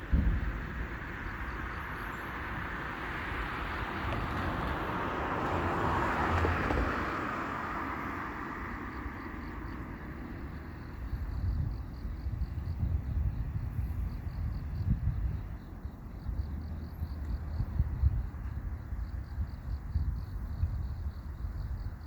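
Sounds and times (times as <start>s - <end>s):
car passing by: 0.0s - 21.9s.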